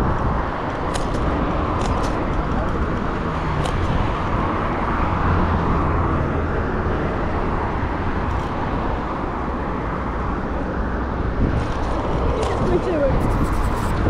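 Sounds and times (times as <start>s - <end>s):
road traffic hum: 0.0s - 14.0s
wind rush and rolling noise: 0.0s - 14.0s.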